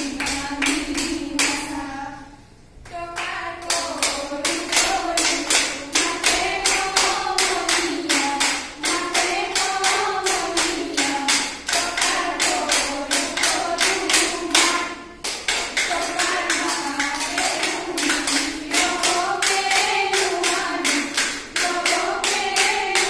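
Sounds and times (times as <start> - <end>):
hand claps: 0.0 - 1.7, 3.2 - 23.0
women singing together: 0.0 - 23.0.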